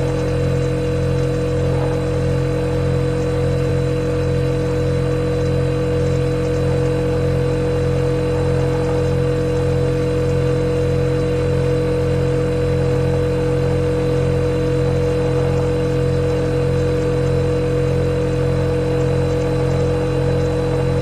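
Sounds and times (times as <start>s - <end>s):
refrigerator humming: 0.0s - 21.0s.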